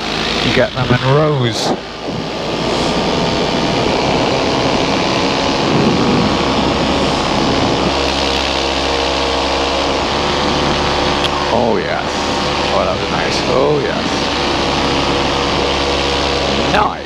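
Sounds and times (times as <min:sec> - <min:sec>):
paramotor engine and propeller: 0:00.0 - 0:17.0
rushing air: 0:00.0 - 0:17.0.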